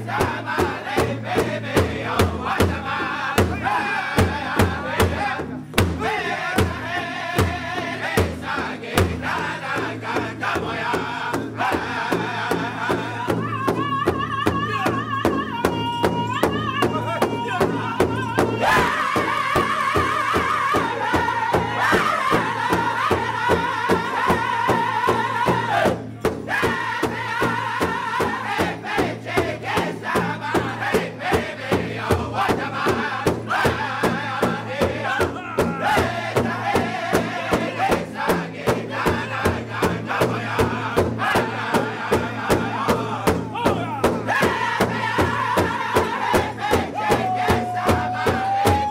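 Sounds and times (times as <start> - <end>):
large hide drum beating: 0.0 - 48.9
men singing in high voices: 0.0 - 48.9.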